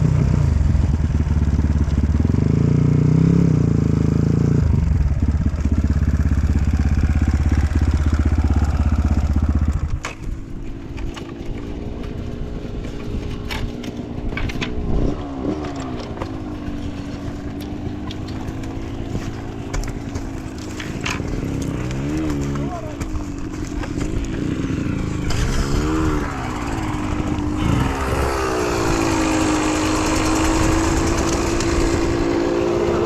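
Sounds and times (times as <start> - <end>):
dirt bike engine revving and idling: 0.0 - 33.0.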